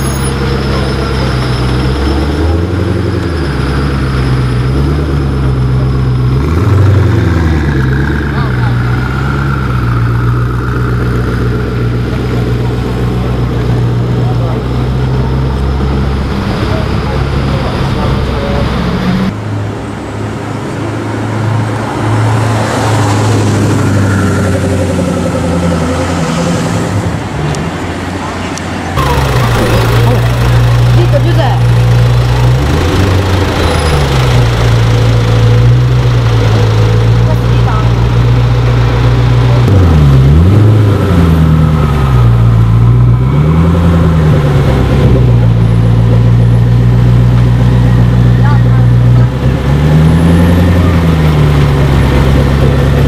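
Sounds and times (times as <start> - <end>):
sports car engine pulling away: 0.0 - 19.4, 28.9 - 53.0.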